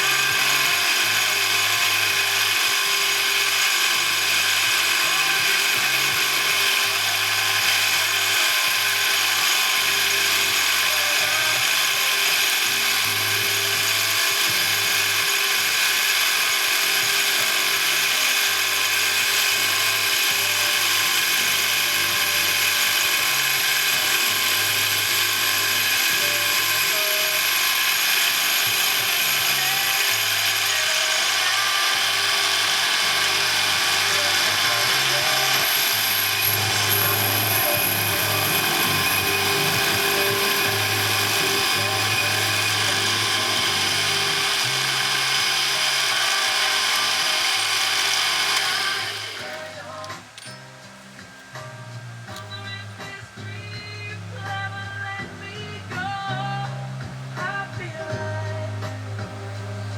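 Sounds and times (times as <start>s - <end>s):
metalworking machine tool running: 0.0s - 50.6s
steady high tones: 0.0s - 53.6s.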